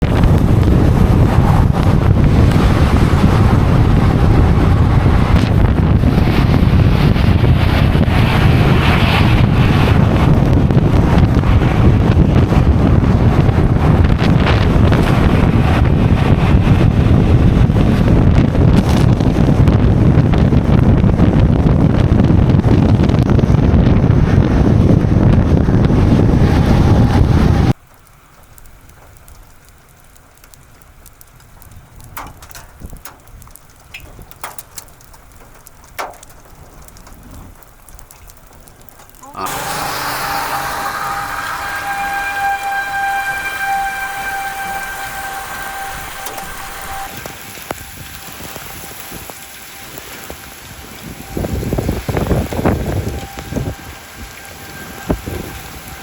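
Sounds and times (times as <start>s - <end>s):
strong wind buffeting microphone: 0.0s - 27.8s, 28.6s - 56.0s.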